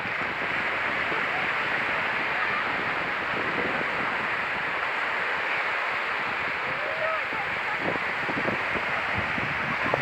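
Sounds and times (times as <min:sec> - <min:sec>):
sea waves rushing: 0:00.0 - 0:10.0.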